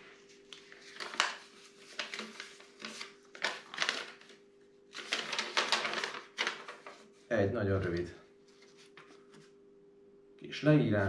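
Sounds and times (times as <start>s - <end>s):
paper packaging rustling: 0.0s - 7.2s, 7.8s - 9.6s
faint electrical hum: 0.0s - 11.0s.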